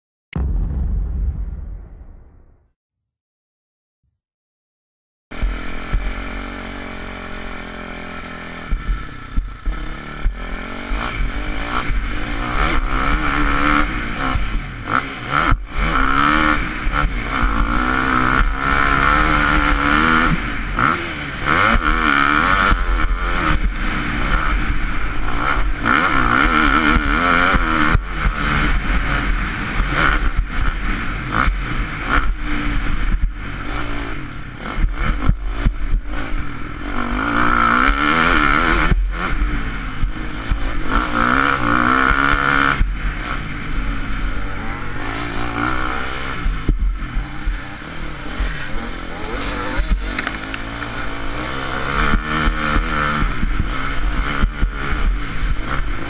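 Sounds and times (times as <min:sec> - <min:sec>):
motocross bike engine revving: 0:05.4 - 0:56.0.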